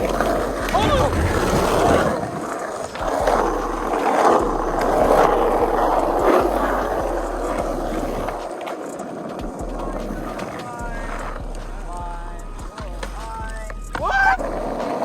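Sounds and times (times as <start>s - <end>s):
skateboard clacks: 0.0s - 12.0s, 12.6s - 15.0s
skateboard wheels rolling on pavement: 0.0s - 15.0s.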